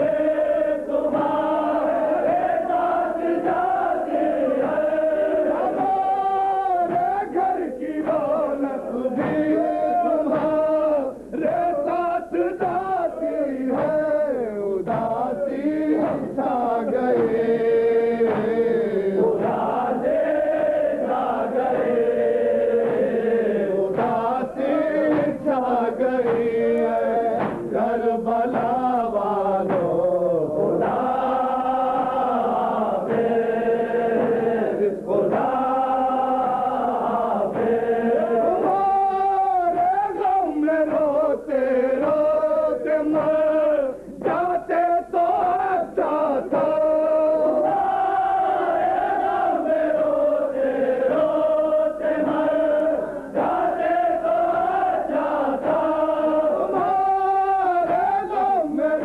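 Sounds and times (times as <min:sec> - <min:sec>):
crowd chanting in chorus: 0:00.0 - 0:59.0
man chanting a lament: 0:00.0 - 0:59.0.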